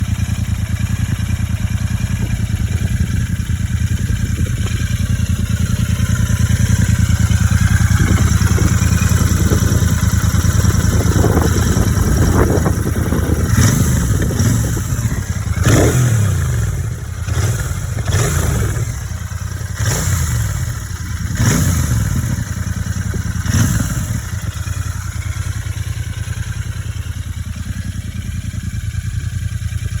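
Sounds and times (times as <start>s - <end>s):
motorcycle engine idling: 0.0s - 30.0s
motorcycle engine revving: 0.0s - 30.0s.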